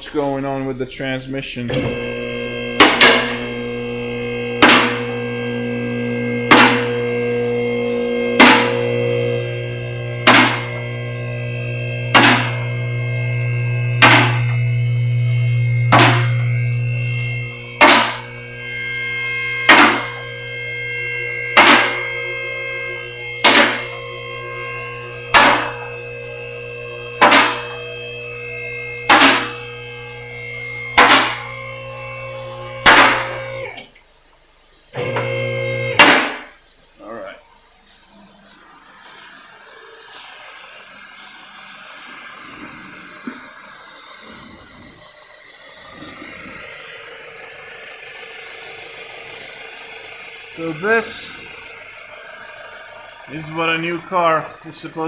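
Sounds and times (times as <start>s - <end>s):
electric pump motor humming: 1.6s - 34.0s, 34.9s - 37.2s, 38.1s - 55.0s.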